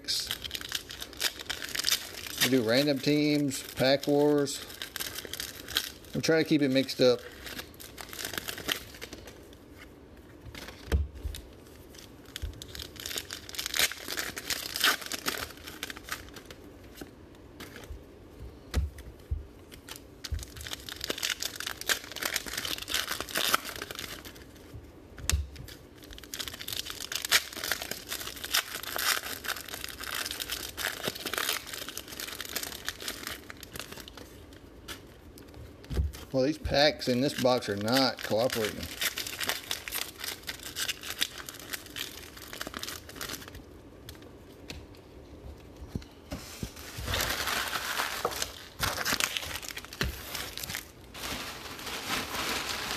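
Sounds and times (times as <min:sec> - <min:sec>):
card pack wrappers tearing: 0:00.0 - 0:09.8, 0:10.5 - 0:17.9, 0:19.7 - 0:24.7, 0:25.6 - 0:35.1, 0:36.2 - 0:44.3, 0:46.8 - 0:52.9.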